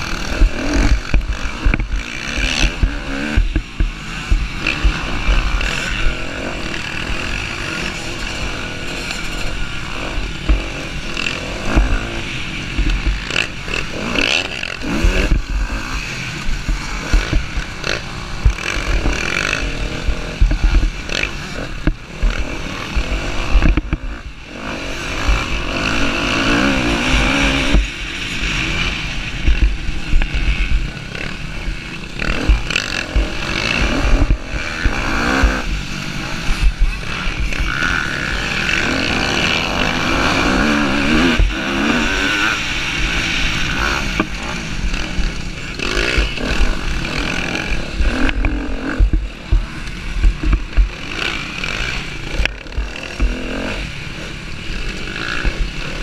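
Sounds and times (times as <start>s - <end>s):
motocross bike engine revving: 0.0s - 56.0s
other dirt bikes: 0.0s - 56.0s.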